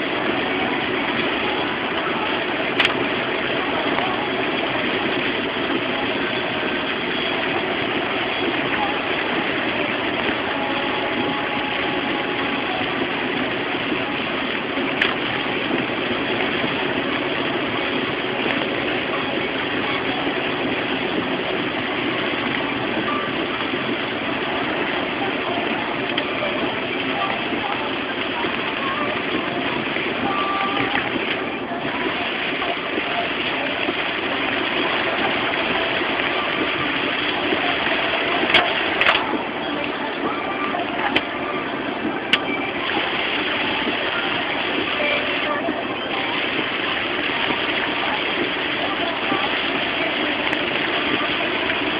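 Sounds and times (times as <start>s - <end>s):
rain on car windshield: 0.0s - 51.9s
tyres on wet road: 0.0s - 51.9s.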